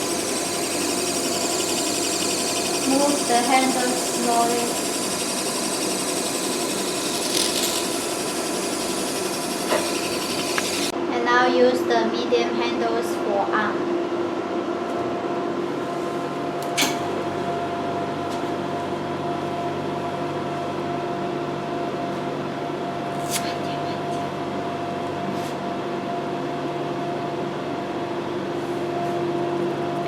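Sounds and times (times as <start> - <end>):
machine pump and fan humming: 0.0 - 30.0.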